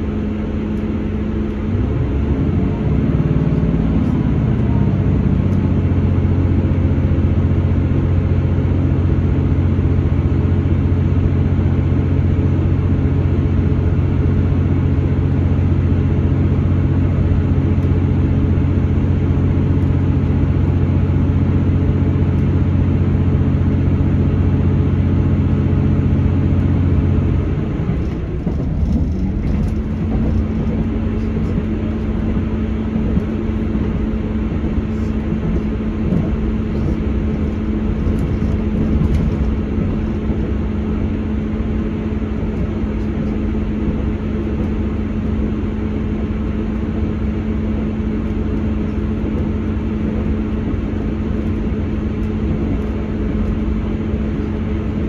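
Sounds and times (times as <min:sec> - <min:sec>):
diesel engine hum: 0:00.0 - 0:55.0
wheels rumbling on rail: 0:00.0 - 0:55.0.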